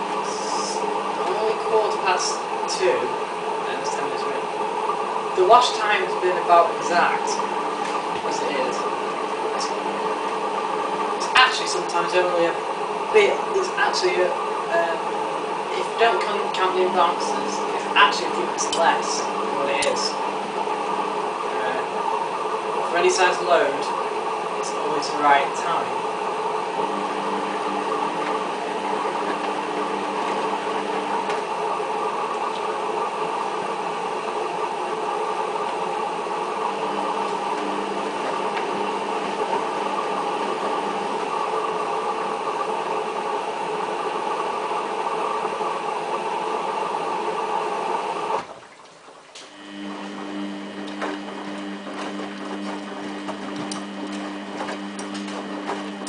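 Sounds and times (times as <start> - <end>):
low two-tone hum: 0.0 - 46.5, 47.2 - 56.0
washing machine running with water: 0.0 - 56.0.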